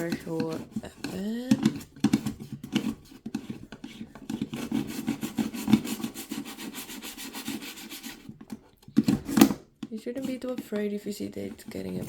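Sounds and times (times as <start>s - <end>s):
toothbrush scrubbing plastic: 0.0s - 12.0s.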